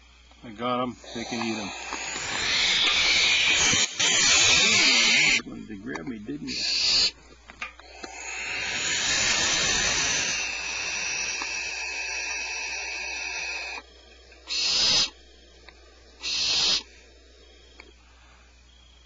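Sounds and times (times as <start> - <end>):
owl nestlings hissing: 0.0 - 18.9.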